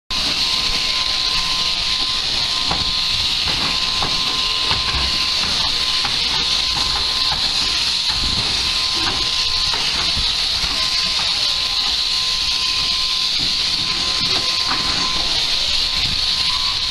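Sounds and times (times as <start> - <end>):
shearing handpiece buzzing: 0.1 - 16.9
constant thin tone: 0.2 - 16.9.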